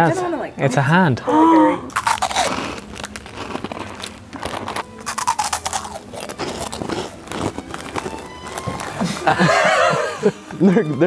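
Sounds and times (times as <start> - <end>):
people crunching crisp snacks: 1.6 - 11.0.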